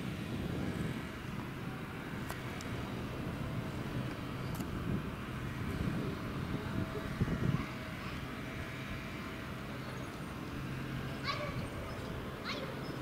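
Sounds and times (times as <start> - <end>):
street rumble: 0.0 - 13.0.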